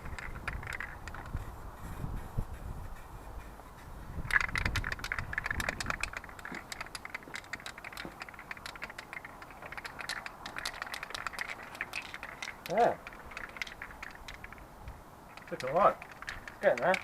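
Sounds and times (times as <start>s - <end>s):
rapid clicking and rattling: 0.0s - 3.5s, 4.2s - 14.7s, 15.3s - 17.0s.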